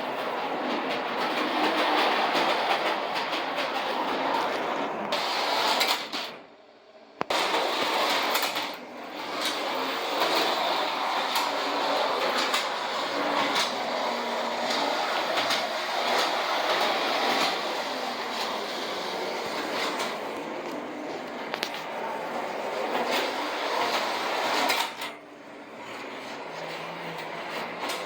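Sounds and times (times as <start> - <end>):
toy train wheel rumble: 0.0 - 6.3, 7.2 - 28.0
wheels clicking on rails: 0.0 - 6.4, 7.2 - 28.0.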